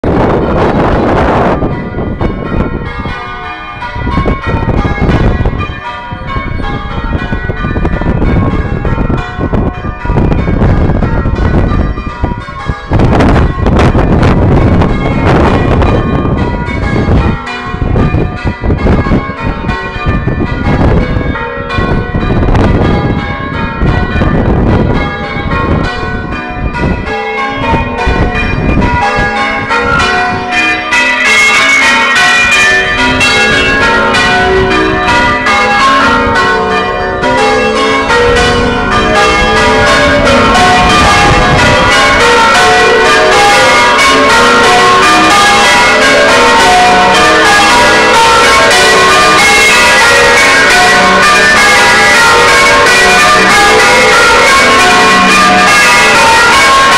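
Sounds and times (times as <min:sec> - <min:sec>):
church bells ringing: 0:00.0 - 0:56.9
wind buffeting microphone: 0:00.0 - 0:56.9.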